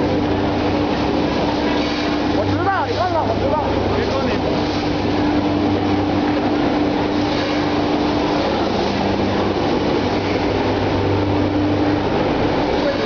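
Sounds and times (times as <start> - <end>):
higher steady hum: 0.0 - 13.0
low machine hum: 0.0 - 13.0.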